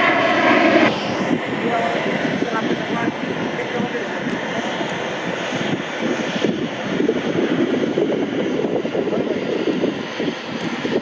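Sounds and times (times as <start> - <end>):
airliner engine rumble: 0.0 - 11.0.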